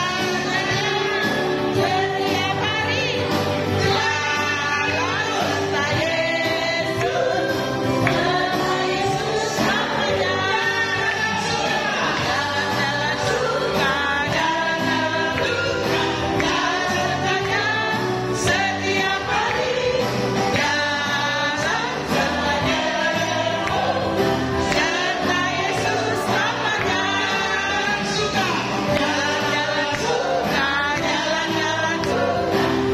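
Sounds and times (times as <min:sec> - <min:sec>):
backing music with steady beat: 0:00.0 - 0:32.9
voices singing praise song: 0:00.0 - 0:32.9.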